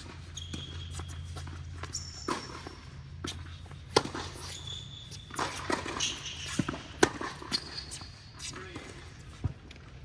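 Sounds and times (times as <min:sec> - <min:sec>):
shoes squeaking on court: 0:00.0 - 0:08.6.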